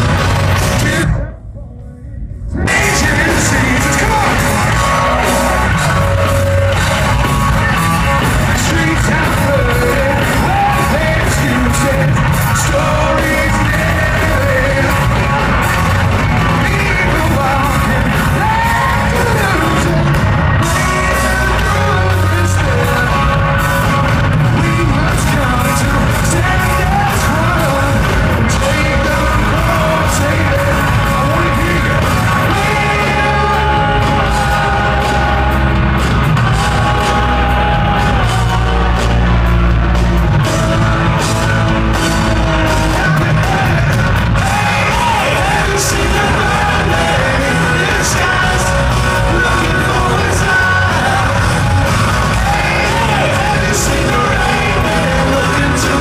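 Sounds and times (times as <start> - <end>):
electric guitars: 0.0 - 1.3, 2.5 - 56.0
drums: 0.0 - 56.0
lead singer: 0.0 - 56.0.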